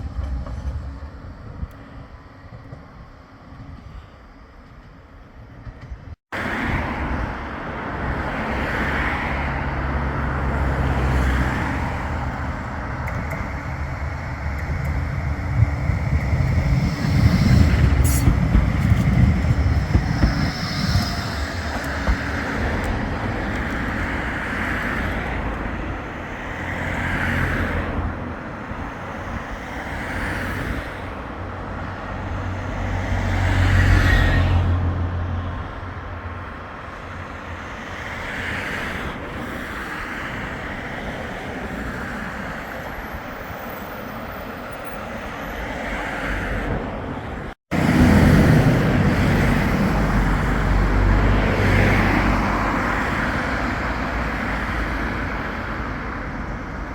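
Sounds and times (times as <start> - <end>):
road traffic noise: 0.0 - 56.9
vehicles passing: 6.4 - 56.9.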